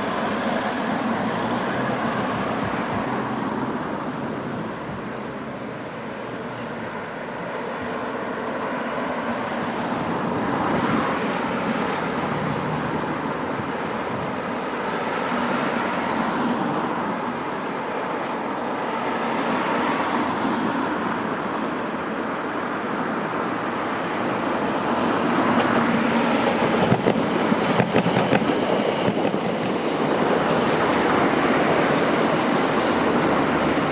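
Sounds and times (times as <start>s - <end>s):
electric train rushing: 0.0s - 33.9s.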